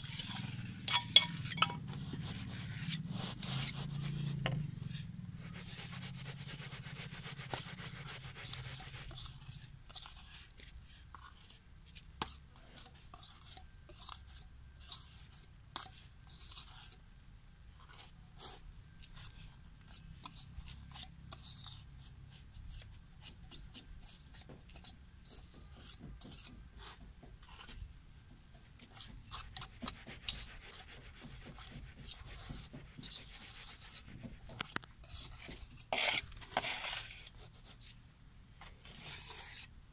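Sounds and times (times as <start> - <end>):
tools scraping wet cement: 0.0 - 4.3, 6.6 - 17.0, 17.8 - 27.8, 28.7 - 37.5, 38.7 - 39.7.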